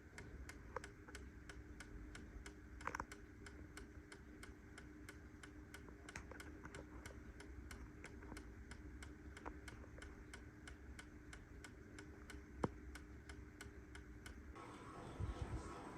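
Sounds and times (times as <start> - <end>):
clock ticking fast: 0.0 - 14.6.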